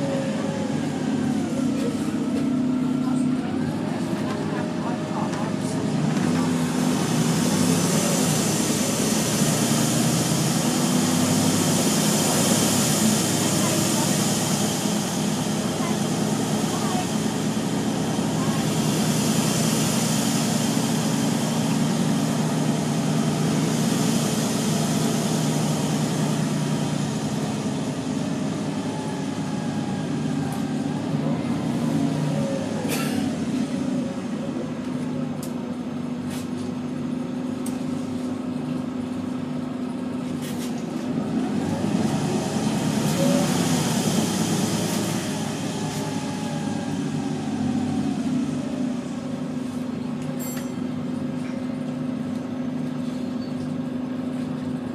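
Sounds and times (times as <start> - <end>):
bus diesel engine: 0.0 - 54.9
road noise: 0.0 - 54.9.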